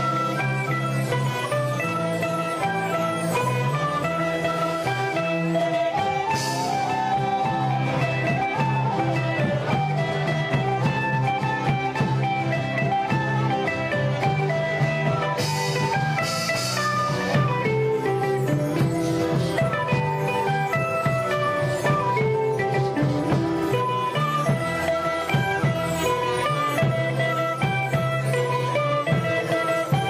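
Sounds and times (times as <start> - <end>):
band playing plucked strings: 0.0 - 30.0
hissing percussion: 0.0 - 30.0.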